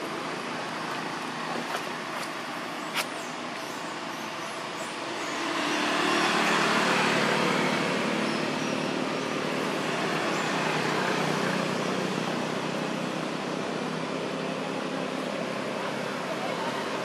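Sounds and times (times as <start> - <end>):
motor traffic hum: 0.0 - 17.0.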